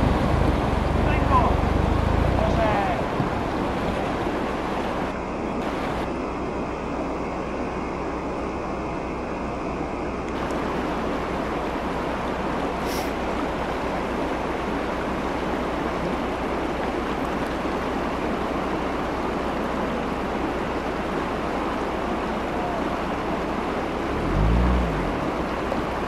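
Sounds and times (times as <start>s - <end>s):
low steady hum: 0.0s - 26.0s
river rushing over gravel: 0.0s - 26.0s.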